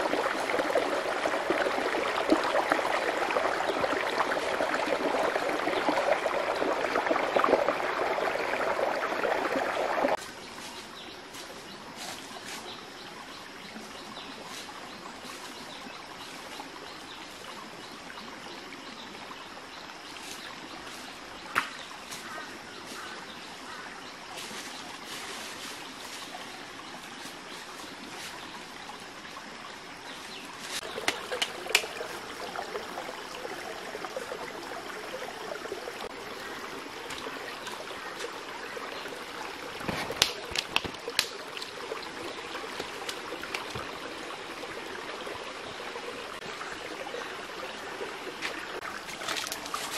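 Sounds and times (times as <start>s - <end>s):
stream trickling and splashing: 0.0s - 49.9s.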